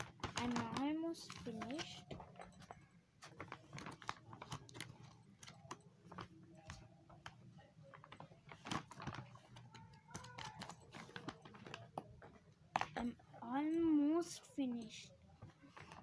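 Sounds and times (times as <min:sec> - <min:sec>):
handling clicks and rustles: 0:00.0 - 0:16.0.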